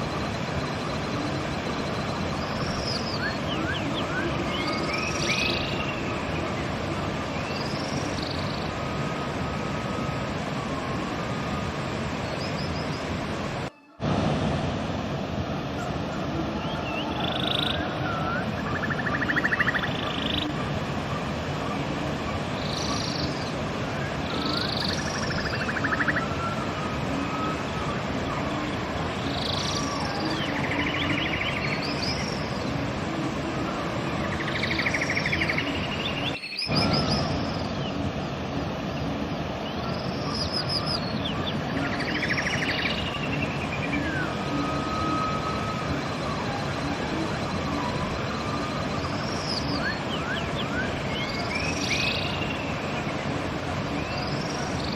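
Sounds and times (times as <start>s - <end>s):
songbirds singing: 0.0s - 14.0s, 15.8s - 54.9s
river rushing: 0.0s - 54.9s.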